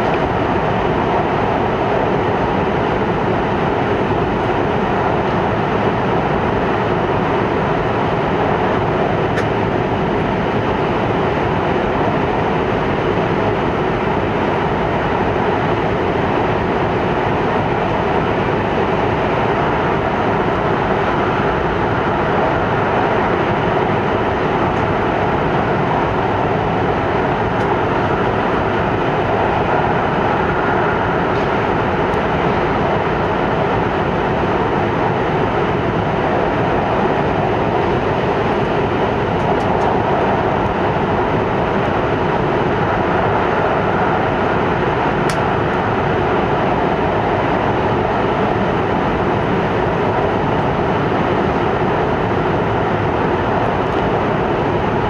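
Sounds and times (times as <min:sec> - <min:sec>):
train rumbling in tunnel: 0:00.0 - 0:55.0.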